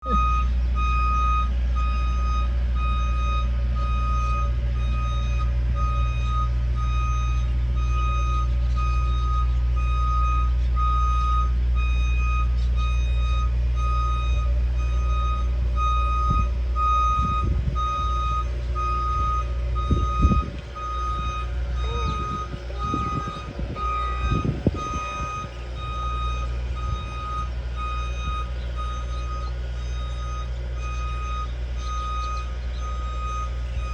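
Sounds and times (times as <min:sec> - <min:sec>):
clunks: 0:00.0 - 0:33.9
reversing alarm beeping: 0:00.0 - 0:33.9
vehicle engine running: 0:00.0 - 0:33.9.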